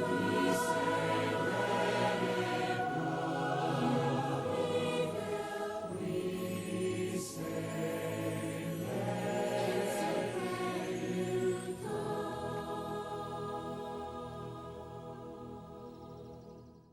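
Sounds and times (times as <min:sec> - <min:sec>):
choir singing sustained chords: 0:00.0 - 0:16.9.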